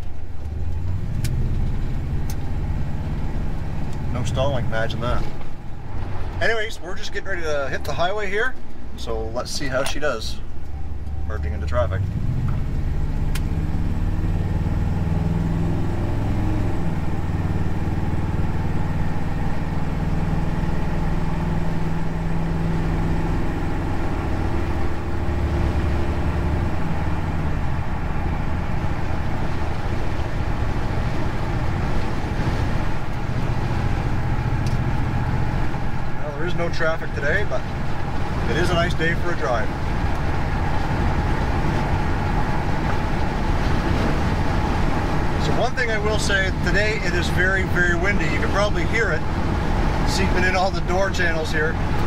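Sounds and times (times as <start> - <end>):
pickup truck engine accelerating: 0.0 - 52.0
road noise: 0.0 - 52.0.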